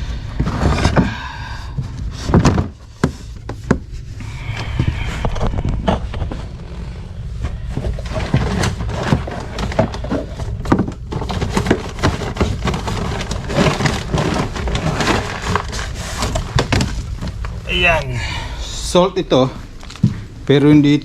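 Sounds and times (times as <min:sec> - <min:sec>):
steady low rumble: 0:00.0 - 0:11.2, 0:14.4 - 0:21.0.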